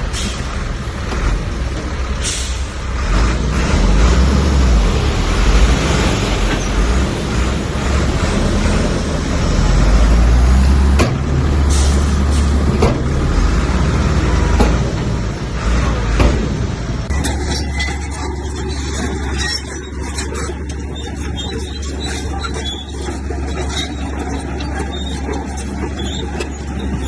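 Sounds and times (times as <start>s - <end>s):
bulldozer diesel engine rumbling: 0.0s - 27.0s.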